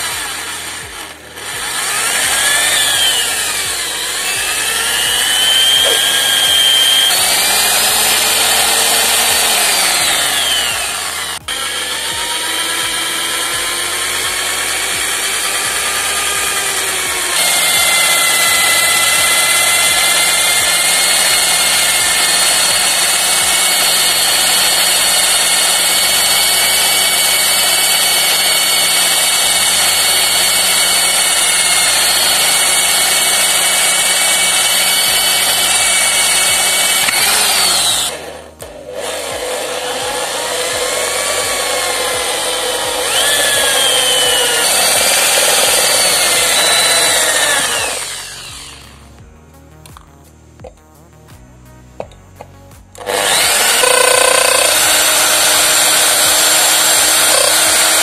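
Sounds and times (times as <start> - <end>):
electric drill cutting metal: 0.0 - 49.2, 53.0 - 58.0.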